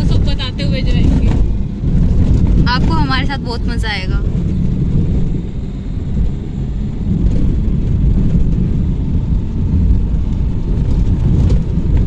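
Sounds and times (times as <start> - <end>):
vehicle rumbling: 0.0 - 12.0.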